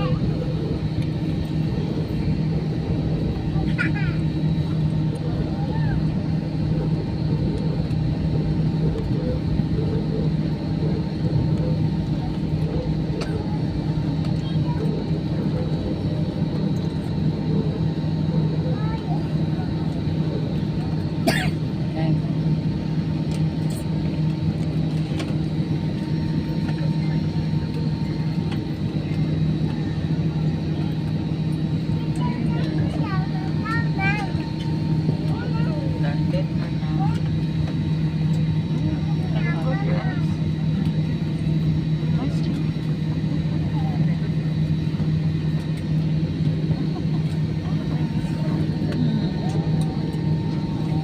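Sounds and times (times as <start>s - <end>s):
airplane cabin drone: 0.0s - 51.0s.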